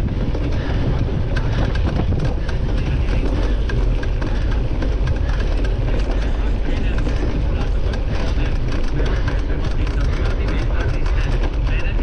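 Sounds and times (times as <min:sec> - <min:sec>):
bike rattling and clicking: 0:00.0 - 0:12.0
wind rumble on microphone: 0:00.0 - 0:12.0.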